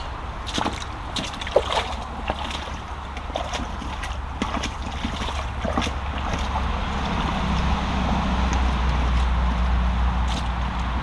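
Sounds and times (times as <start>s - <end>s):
stream rushing: 0.0s - 11.0s
boots splashing through water: 0.4s - 11.0s.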